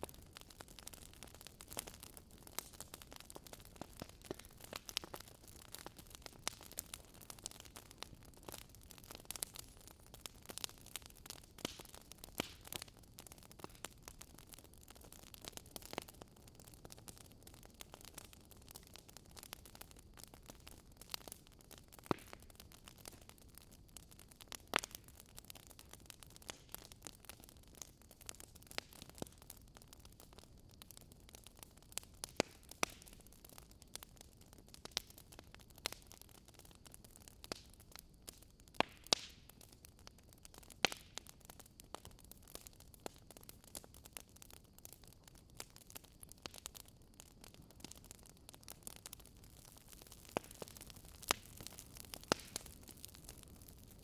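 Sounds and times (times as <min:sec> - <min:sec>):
wood campfire crackling: 0:00.0 - 0:54.0.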